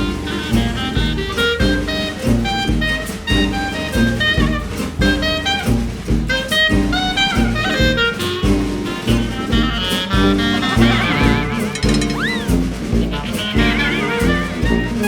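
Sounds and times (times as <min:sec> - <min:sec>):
bass and drum beat: 0:00.0 - 0:15.0
saxophone melody: 0:00.0 - 0:15.0
upbeat jazzy music: 0:00.0 - 0:15.0.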